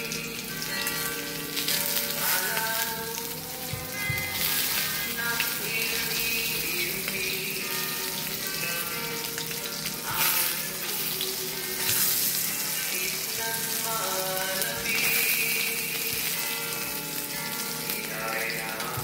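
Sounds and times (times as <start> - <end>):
sausages sizzling in a frying pan: 0.0 - 19.0.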